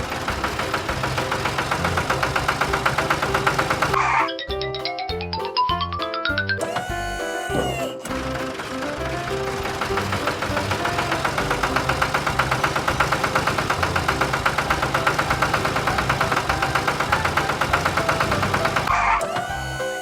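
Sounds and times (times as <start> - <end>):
background music: 0.0 - 20.0
cartoon engine chugging: 0.0 - 20.0.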